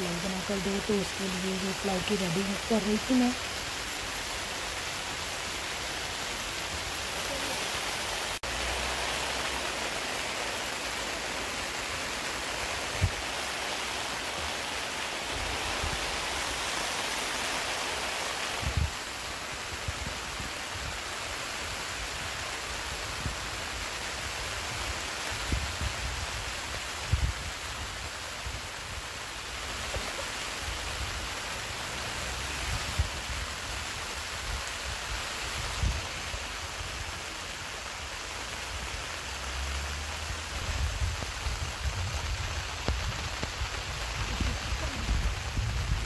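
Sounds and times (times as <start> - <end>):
heavy rain hissing: 0.0 - 46.0.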